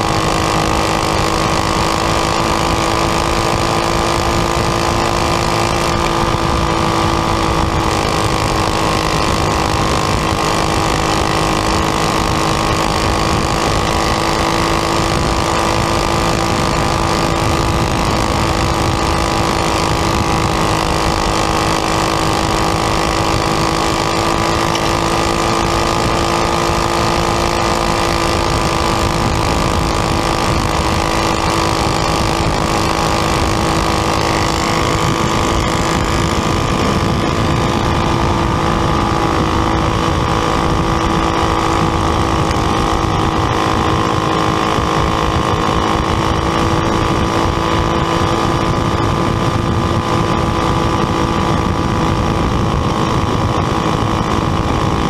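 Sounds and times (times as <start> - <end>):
kart engine at high revs: 0.0 - 55.0
rushing noise: 0.0 - 55.0.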